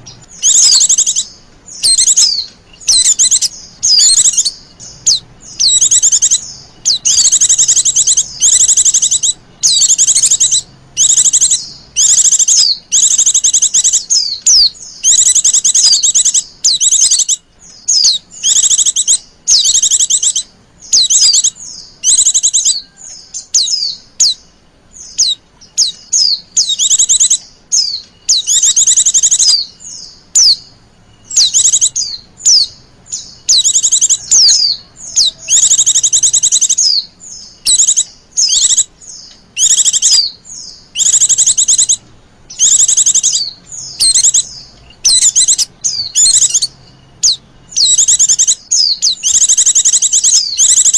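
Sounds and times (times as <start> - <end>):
bird rapid chirping: 0.0 - 50.9
soft single bird chirps: 0.0 - 50.9.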